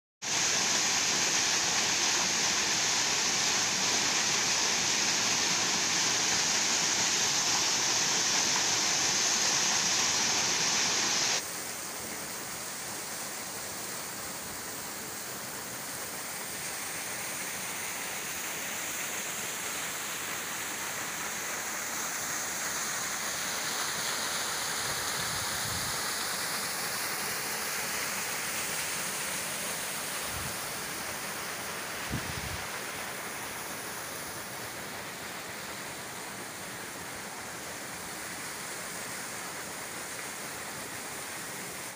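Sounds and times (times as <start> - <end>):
waterfall splashing over rocks: 0.2 - 41.9.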